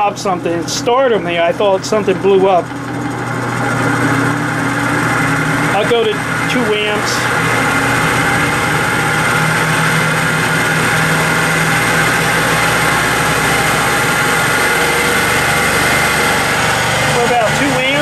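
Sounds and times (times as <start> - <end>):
electric motor whirring: 0.0 - 18.0
low electrical hum: 0.0 - 18.0.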